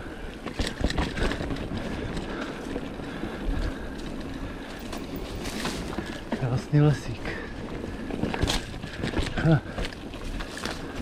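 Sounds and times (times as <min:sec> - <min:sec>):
bike rattling: 0:00.0 - 0:11.0
tyres rolling over dirt: 0:00.0 - 0:11.0.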